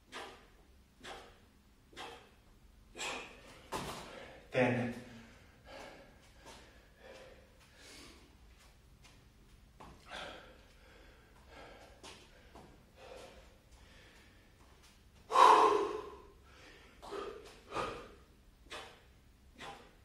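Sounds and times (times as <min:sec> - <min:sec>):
man breathing hard and gasping: 0:00.0 - 0:08.4, 0:09.9 - 0:20.0.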